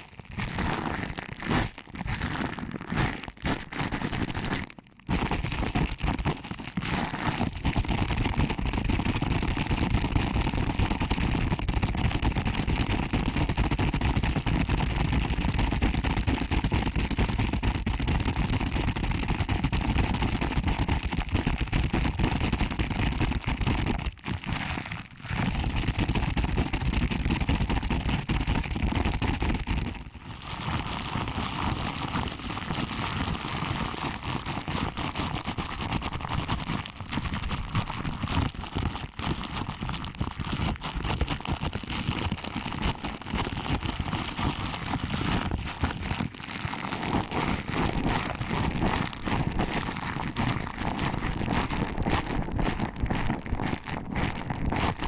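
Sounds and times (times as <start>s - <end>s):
crackly rustling on microphone: 0.0s - 55.0s.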